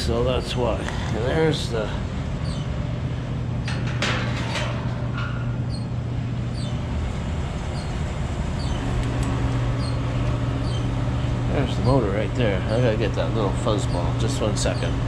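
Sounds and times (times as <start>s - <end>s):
furnace blower motor humming: 0.0s - 15.0s.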